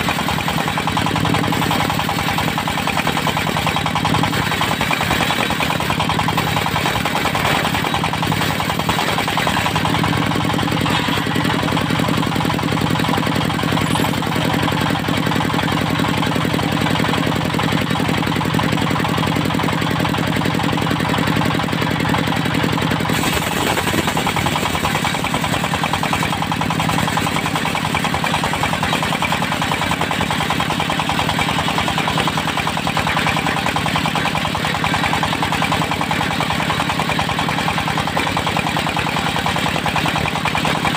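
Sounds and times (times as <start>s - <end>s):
diesel engine driving sawmill: 0.0s - 40.9s.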